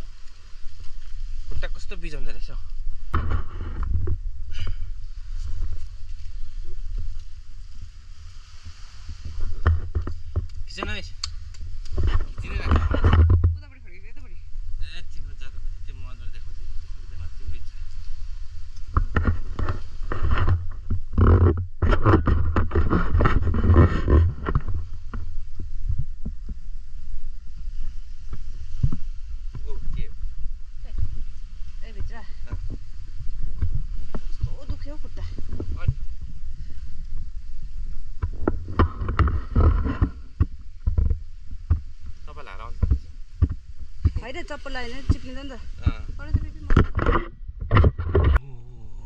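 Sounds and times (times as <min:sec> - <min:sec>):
wind rumble on microphone: 0:00.0 - 0:49.0.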